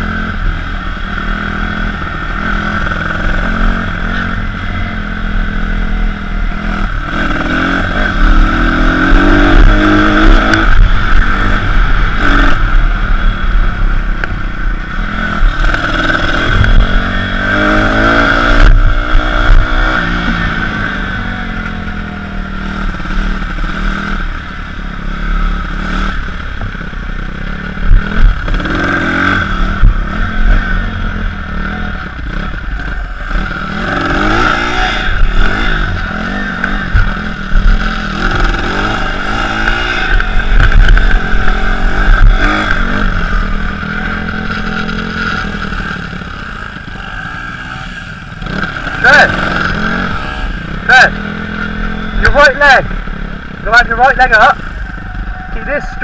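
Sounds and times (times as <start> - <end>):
pit bike engine revving: 0.0 - 56.0.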